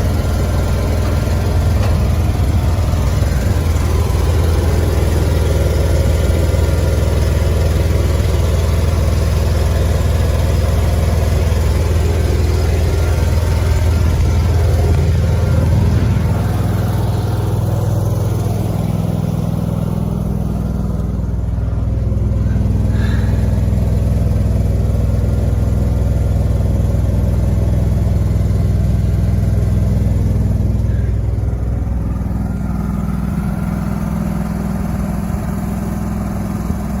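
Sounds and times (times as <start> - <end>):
engine running at low speed: 0.0 - 37.0.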